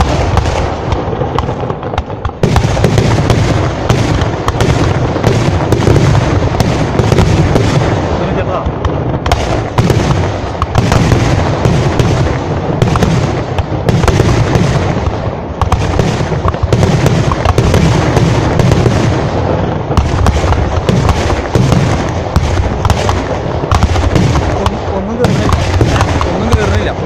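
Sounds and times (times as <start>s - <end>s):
fireworks bangs and crackles: 0.0s - 27.0s
heavy low rumble: 0.0s - 27.0s.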